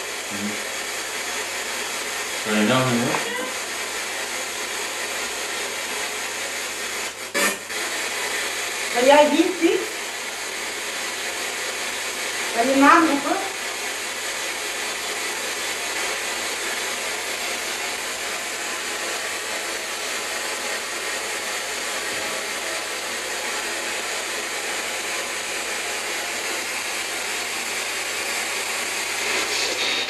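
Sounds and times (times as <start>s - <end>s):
static hiss: 0.0s - 30.0s.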